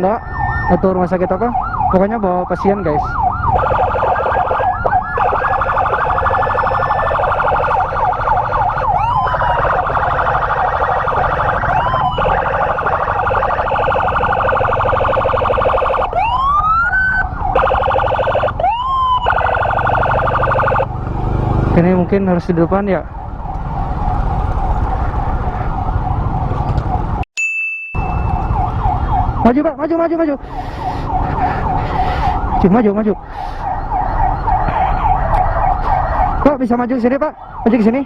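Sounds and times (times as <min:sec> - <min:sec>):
ambulance sirens warbling: 0:00.0 - 0:27.2, 0:28.0 - 0:38.0
siren whooping: 0:00.0 - 0:27.2, 0:28.0 - 0:38.0
engine and road rumble: 0:00.0 - 0:27.3, 0:28.0 - 0:38.0.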